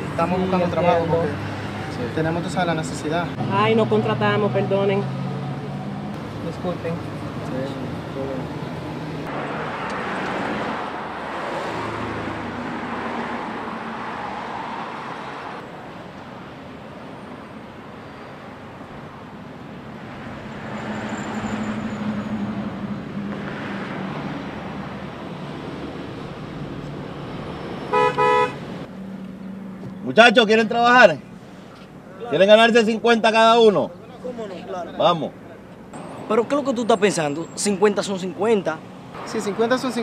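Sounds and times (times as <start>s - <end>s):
vehicles passing: 0.0s - 40.0s.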